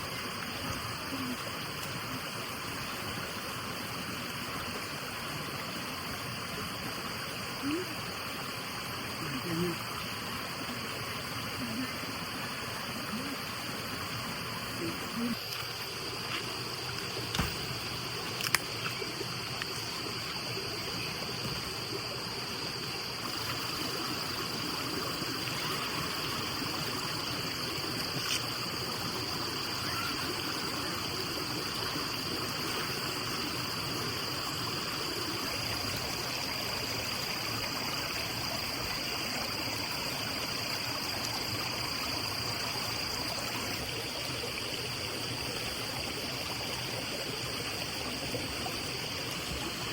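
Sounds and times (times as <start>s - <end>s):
stream flowing: 0.0s - 49.9s.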